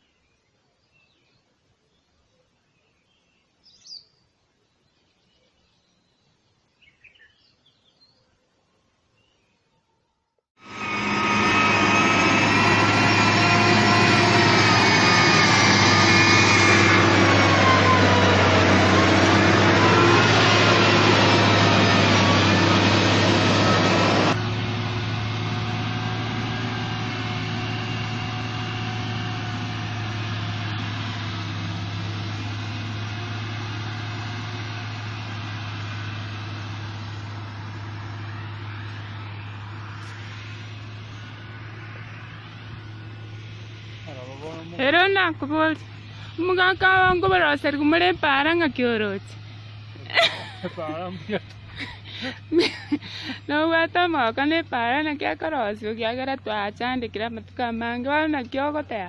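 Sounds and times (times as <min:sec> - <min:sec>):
vehicle engine running: 0:10.6 - 0:59.0.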